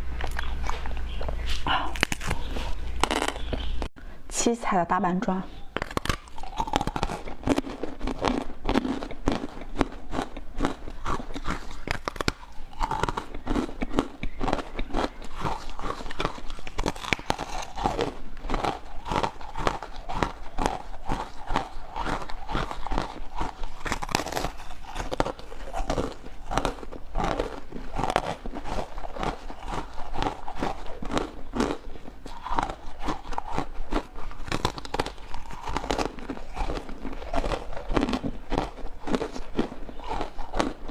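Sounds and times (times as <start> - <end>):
frozen dessert bitten and chewed: 0.0 - 3.9, 5.6 - 40.9
crisp crunches: 0.2 - 3.7, 5.8 - 40.9.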